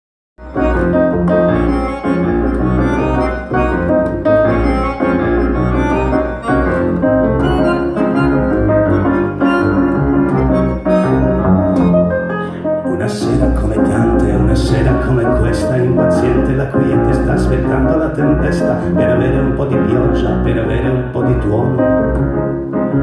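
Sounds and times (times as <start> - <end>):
double bass line: 0.4 - 23.0
piano accordion playing: 0.4 - 23.0.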